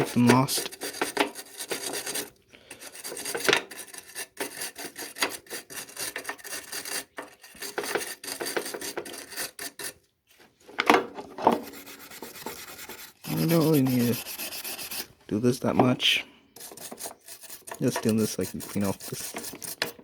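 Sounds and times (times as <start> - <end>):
metal scraping and rubbing: 0.0 - 10.0, 11.2 - 20.0.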